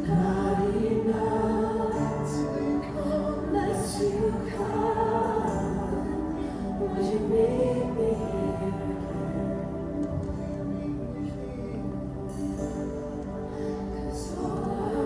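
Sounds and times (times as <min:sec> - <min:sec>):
group of voices singing: 0:00.0 - 0:15.0.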